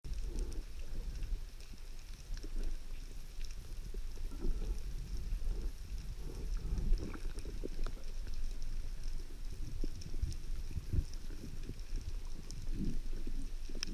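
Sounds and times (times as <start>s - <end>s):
faint crackling clicks: 0.1s - 13.9s
muffled underwater rumble: 0.1s - 13.9s.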